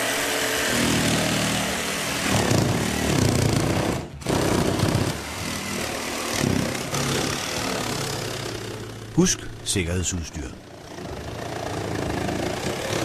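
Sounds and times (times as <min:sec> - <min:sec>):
power saw cutting: 0:00.0 - 0:09.6, 0:10.7 - 0:13.0.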